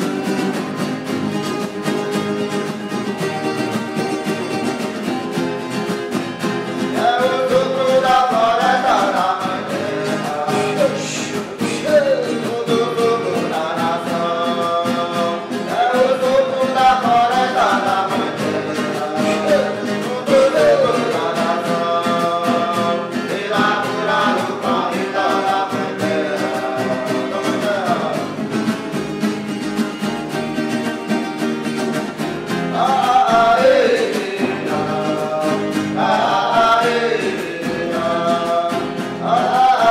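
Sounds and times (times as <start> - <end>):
acoustic guitar: 0.0 - 39.9
voices singing: 2.6 - 29.0, 32.0 - 39.9.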